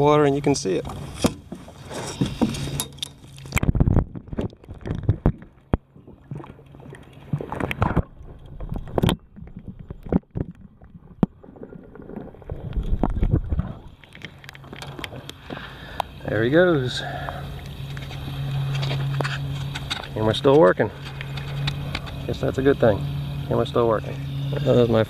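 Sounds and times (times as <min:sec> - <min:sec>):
muffled underwater sloshing: 0:00.0 - 0:25.0
water splashes: 0:00.0 - 0:25.0.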